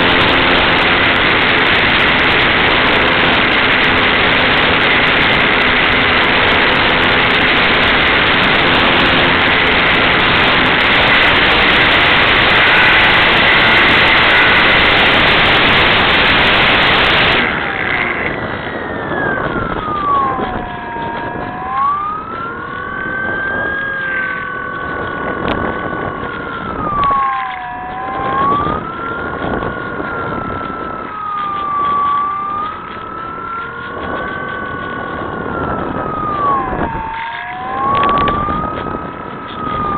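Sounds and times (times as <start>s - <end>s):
model plane electric motor whine: 0.0s - 39.9s
wind noise on microphone: 0.0s - 39.9s.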